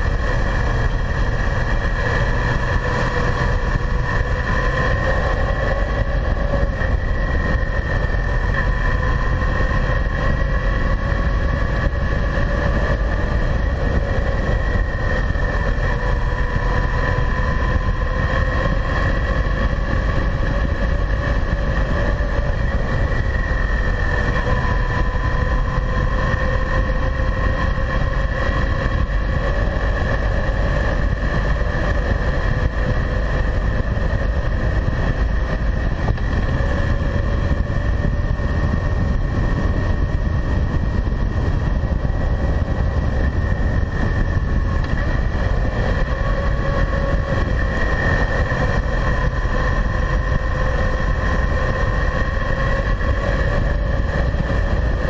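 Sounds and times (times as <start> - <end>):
motorcycle engine cruising: 0.0 - 55.0
steady whine: 0.0 - 55.0
wind rumble on microphone: 0.0 - 55.0.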